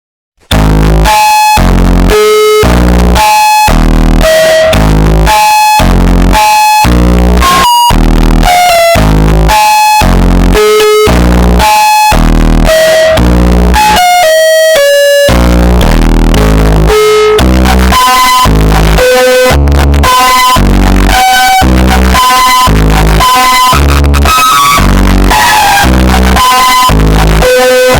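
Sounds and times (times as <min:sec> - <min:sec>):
distorted synthesizer music: 0:00.4 - 0:27.9.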